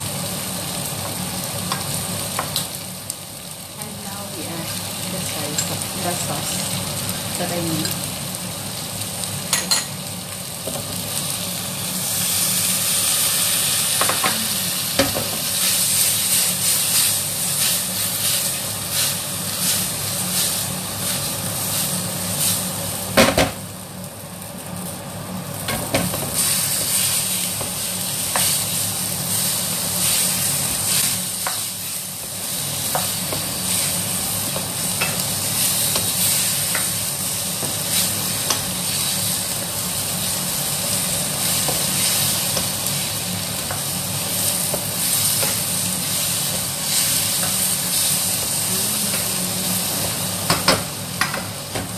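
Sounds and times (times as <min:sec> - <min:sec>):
food sizzling in a frying pan: 0:00.0 - 0:51.9
steady low hum: 0:00.0 - 0:51.9.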